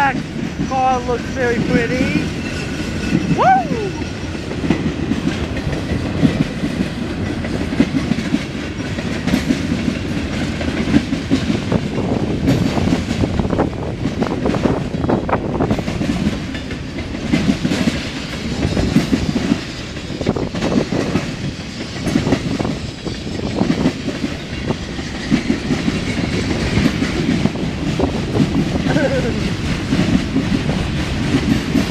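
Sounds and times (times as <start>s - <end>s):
train wheels rumbling on rails: 0.0s - 31.9s
wheels clanking over rail joints: 4.0s - 31.9s.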